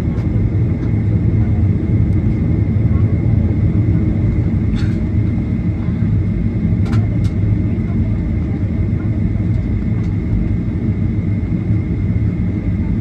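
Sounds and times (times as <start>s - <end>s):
jet airliner cabin rumble: 0.0s - 13.0s.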